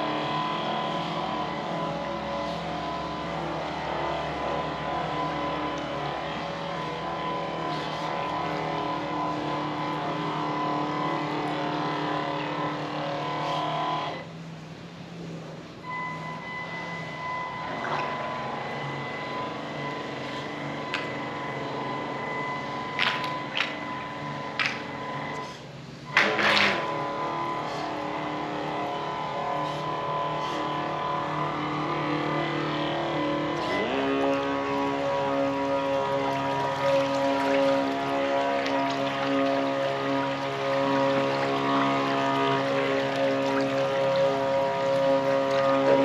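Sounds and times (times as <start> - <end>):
electric motor whining: 0.0 - 14.3, 15.9 - 46.0.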